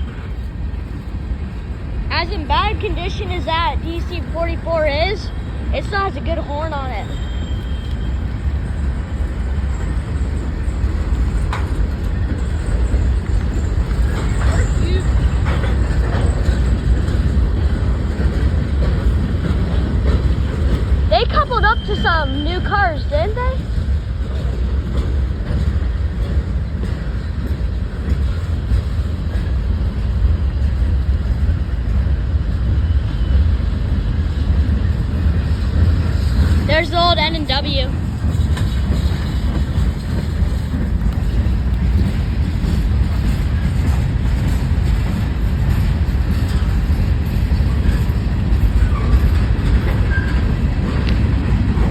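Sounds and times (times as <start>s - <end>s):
freight train rumbling by: 0.0s - 51.9s.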